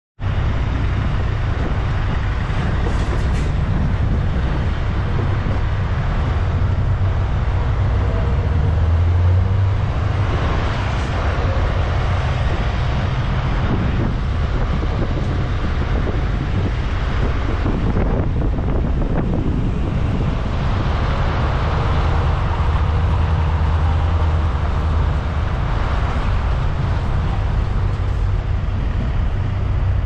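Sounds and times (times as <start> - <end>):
diesel truck engine rumbling: 0.2 - 30.0.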